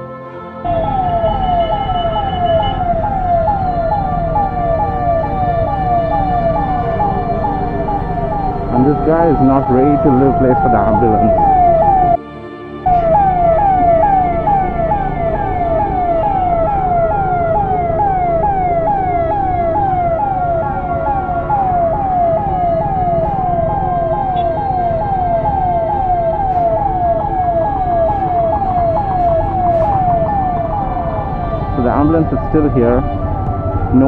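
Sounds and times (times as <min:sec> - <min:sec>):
ambulance siren yelping: 0:00.6 - 0:12.2, 0:12.9 - 0:34.0
low rumble of traffic: 0:00.7 - 0:12.2, 0:12.9 - 0:34.0.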